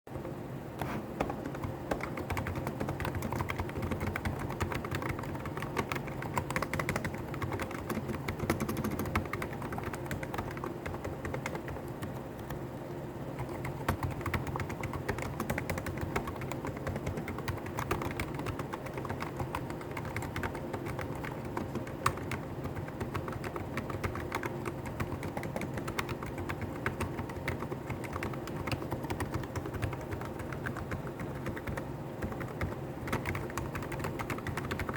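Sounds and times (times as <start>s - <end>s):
keyboard typing: 1.2s - 12.8s, 13.4s - 34.9s.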